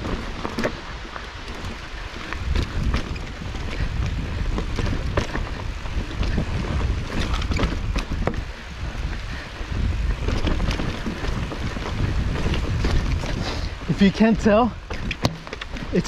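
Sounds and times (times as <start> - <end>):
bike clicks and knocks: 0.0 - 16.0
wind rumbling on microphone: 0.0 - 16.0.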